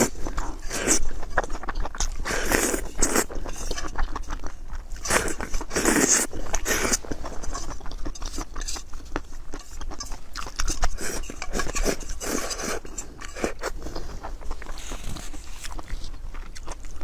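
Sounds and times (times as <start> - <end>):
slurping: 0.0 - 17.0
wet chewing and mouth smacks: 0.0 - 17.0.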